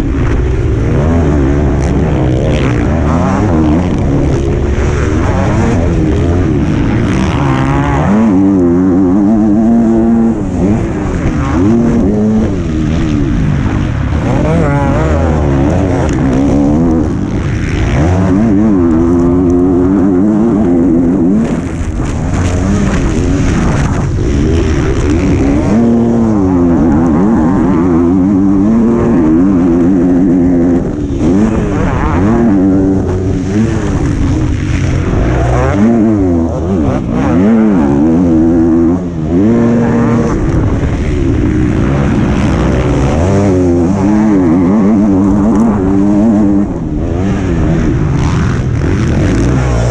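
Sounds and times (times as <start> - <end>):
motocross bike engine revving: 0.0 - 49.9.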